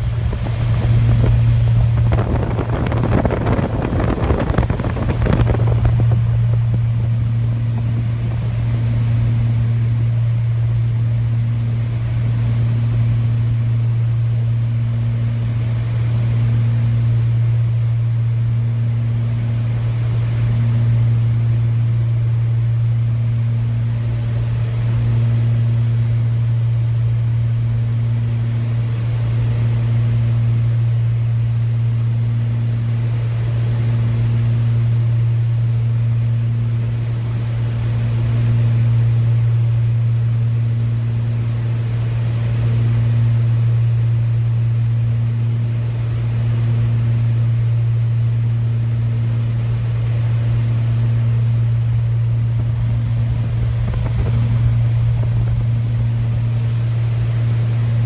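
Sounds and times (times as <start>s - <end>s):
machine low hum: 0.0s - 58.0s.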